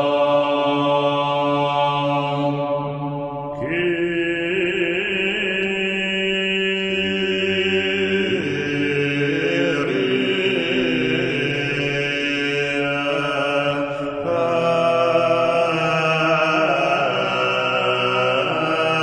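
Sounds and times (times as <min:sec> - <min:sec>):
droning chant-like music: 0:00.0 - 0:19.0.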